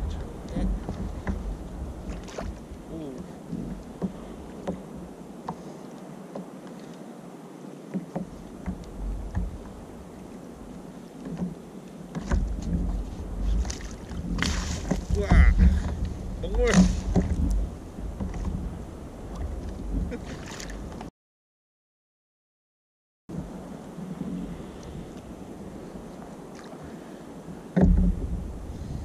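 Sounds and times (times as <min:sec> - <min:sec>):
wind rumble on microphone: 0:00.0 - 0:05.4, 0:08.0 - 0:21.1, 0:23.3 - 0:29.0
water sloshing against kayak: 0:00.0 - 0:21.1, 0:23.3 - 0:29.0.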